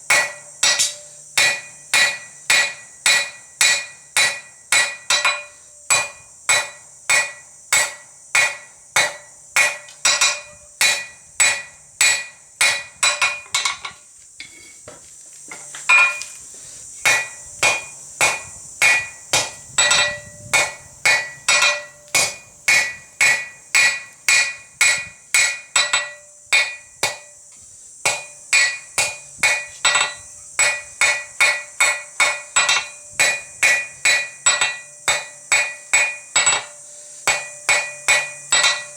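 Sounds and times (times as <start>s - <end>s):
hammer blows on hot steel: 0.0s - 14.9s, 17.0s - 38.9s.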